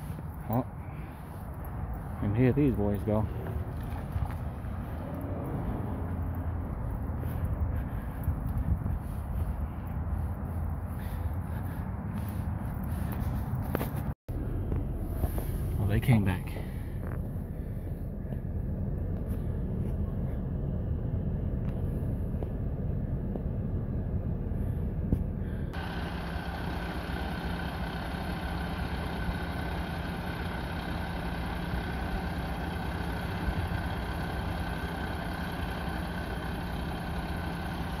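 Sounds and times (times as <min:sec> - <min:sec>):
vacuum truck drone with whine: 0:00.0 - 0:38.0
vehicle engine rumble: 0:00.0 - 0:38.0.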